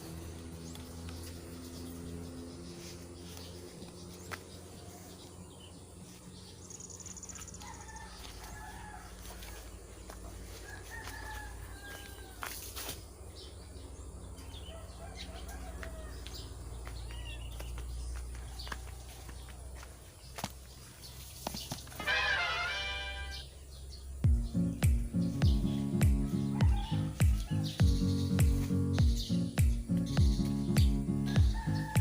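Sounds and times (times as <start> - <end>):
birds chirping and calling: 0.0 - 32.0.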